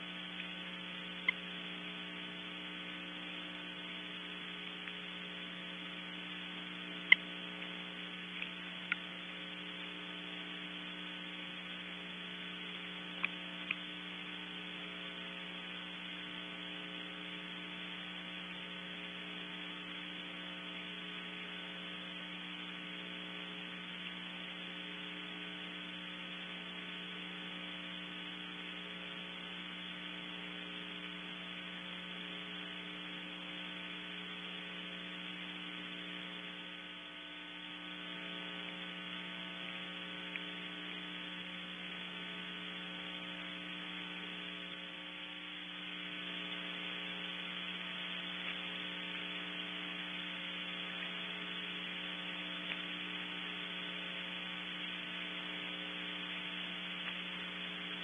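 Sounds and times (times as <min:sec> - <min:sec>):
electrical mains hum: 0:00.0 - 0:58.0
faint ticks: 0:00.0 - 0:58.0.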